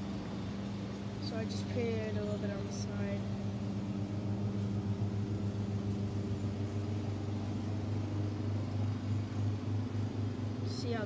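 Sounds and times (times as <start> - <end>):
motor droning: 0.0 - 11.0.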